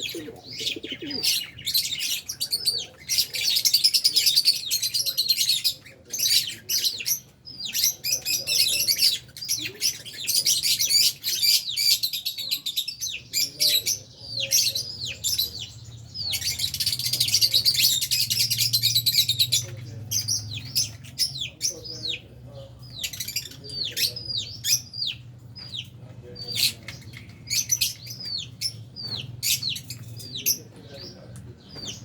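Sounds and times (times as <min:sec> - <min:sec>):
lovebirds chirping and squeaking: 0:00.0 - 0:32.0.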